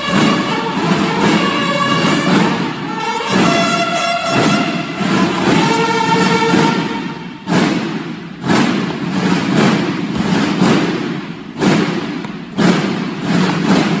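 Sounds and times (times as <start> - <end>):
marching drums beating in a hall: 0.0 - 14.0.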